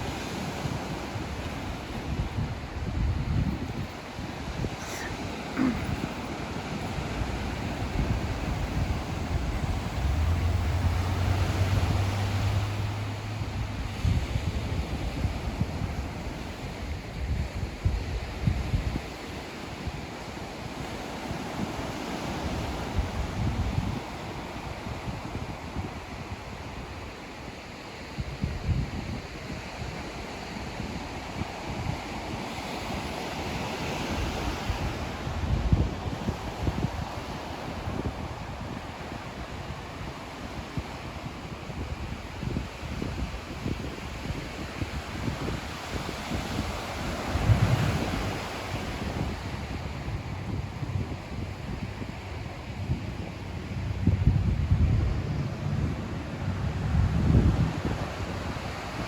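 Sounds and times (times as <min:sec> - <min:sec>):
ocean waves on shore: 0:00.0 - 0:59.0
wind buffeting microphone: 0:00.0 - 0:59.0.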